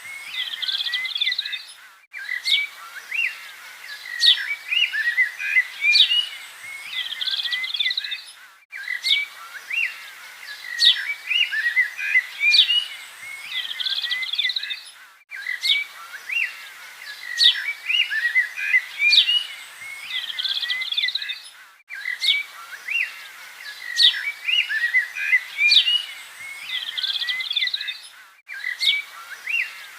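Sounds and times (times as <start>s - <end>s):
birds chirping and trilling: 0.0s - 29.9s.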